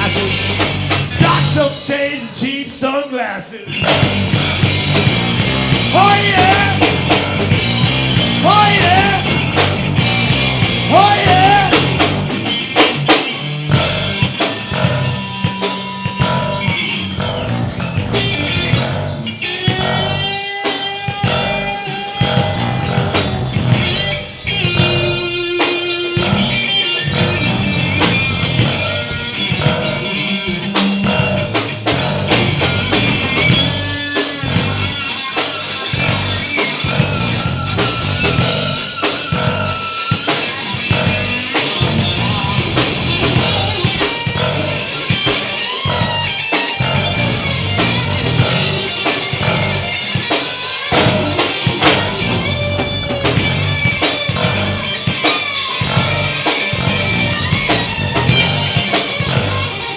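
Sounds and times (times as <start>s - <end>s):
drum kit: 0.0s - 2.8s, 3.6s - 59.9s
guitar: 0.0s - 59.9s.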